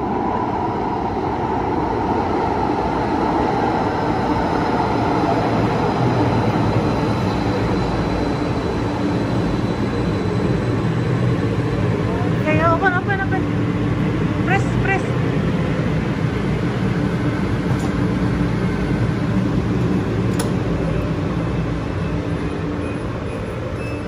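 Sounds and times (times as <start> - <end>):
train wheels rumbling on rails: 1.7 - 24.0.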